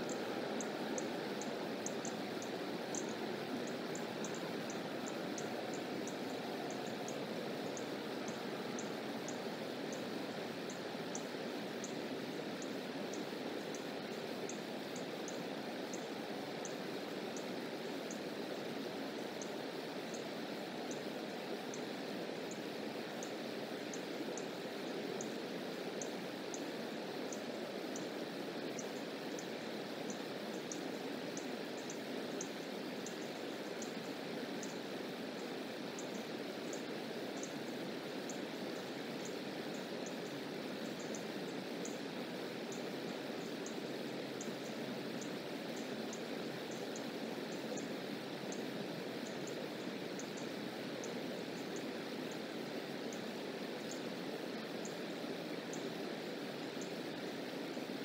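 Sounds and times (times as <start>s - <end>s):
faint high-pitched ticks: 0.0s - 57.9s
creek water rushing: 0.0s - 58.0s.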